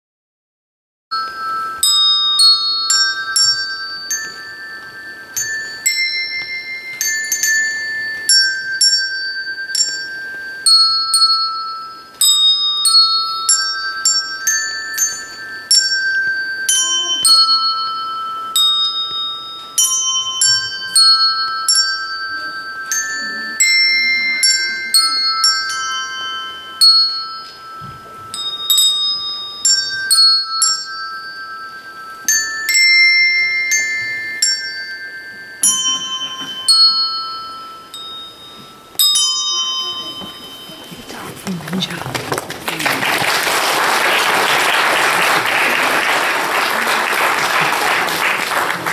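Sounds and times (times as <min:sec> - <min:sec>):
handbell melody: 0:01.1 - 0:48.9.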